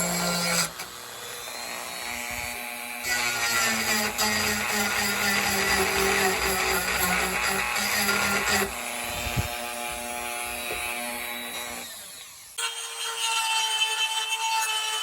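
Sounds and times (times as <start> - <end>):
power tool working wood: 0.0 - 15.0.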